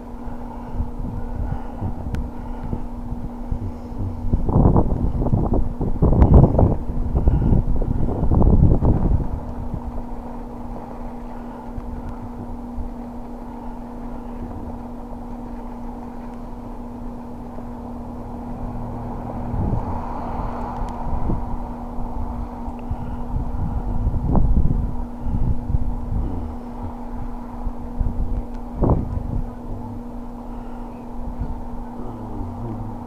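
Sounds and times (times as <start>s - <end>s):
vehicle engine humming: 0.0s - 33.0s
wind rumble on microphone: 0.0s - 33.0s.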